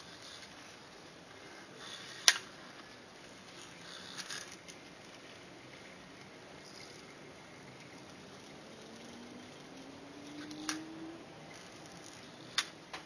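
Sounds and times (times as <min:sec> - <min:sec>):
gyroscopes humming: 0:00.0 - 0:13.0.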